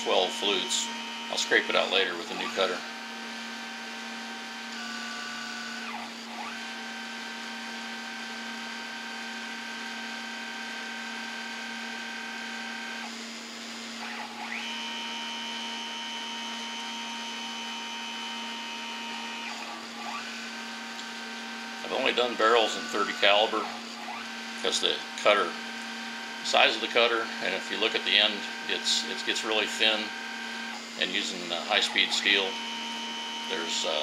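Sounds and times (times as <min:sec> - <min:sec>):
cnc mill motors whining: 0:00.0 - 0:34.0.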